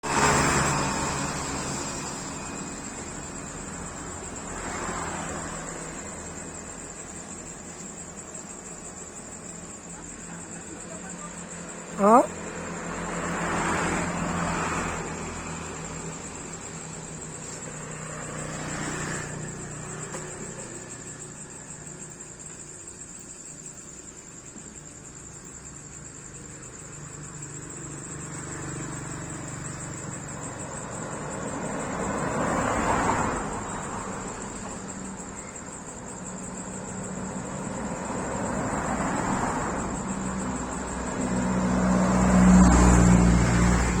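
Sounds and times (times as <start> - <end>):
vehicles passing: 0.0 - 44.0.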